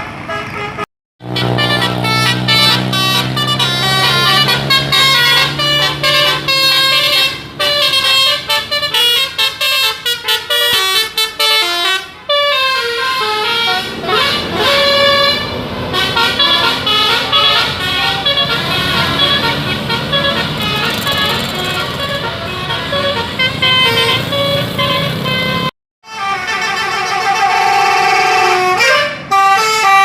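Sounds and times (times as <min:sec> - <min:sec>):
musical air horn playing a tune: 0:00.4 - 0:30.0.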